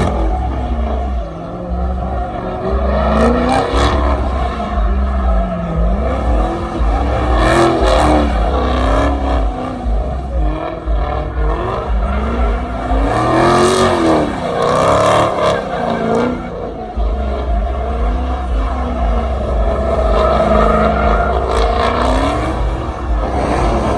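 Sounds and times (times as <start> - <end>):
car engine revving: 0.0 - 23.9
sharp exhaust cracks: 0.0 - 23.9.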